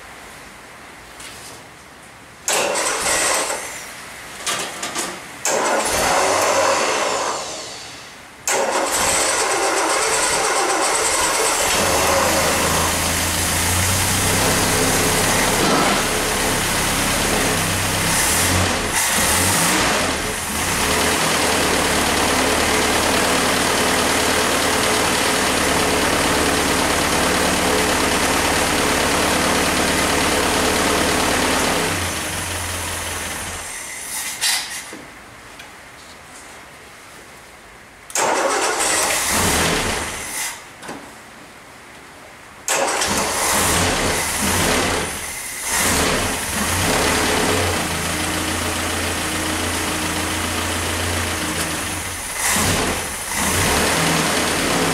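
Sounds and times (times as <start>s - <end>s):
petrol engine cranking and running: 2.5s - 3.8s, 4.5s - 7.8s, 8.4s - 34.1s, 38.1s - 40.5s, 42.7s - 54.9s.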